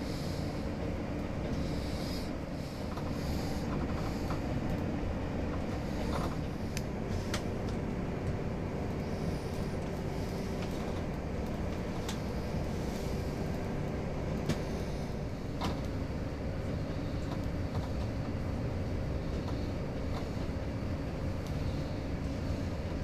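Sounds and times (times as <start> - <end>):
steady hum: 0.0 - 23.0
train rumbling on rails: 0.0 - 23.0.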